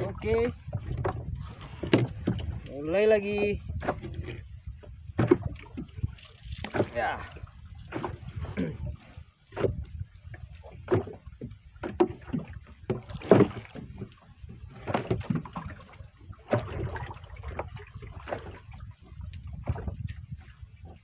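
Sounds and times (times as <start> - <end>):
waves slapping wooden hull: 0.0 - 21.0.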